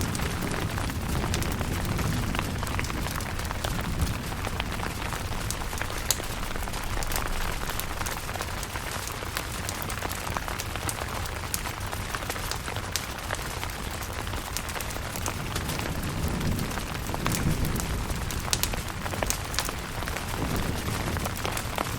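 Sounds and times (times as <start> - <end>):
rain on a tent: 0.0 - 21.9.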